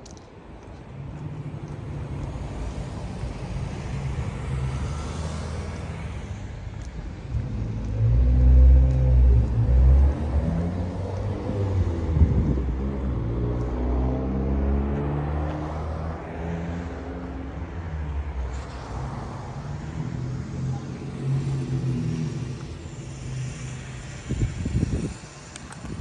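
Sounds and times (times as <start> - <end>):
car engine pulling away: 1.1 - 26.0.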